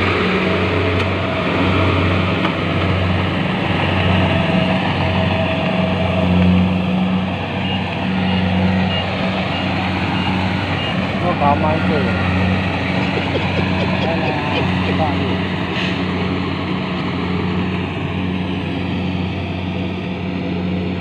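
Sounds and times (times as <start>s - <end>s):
diesel engine hum: 0.0s - 21.0s.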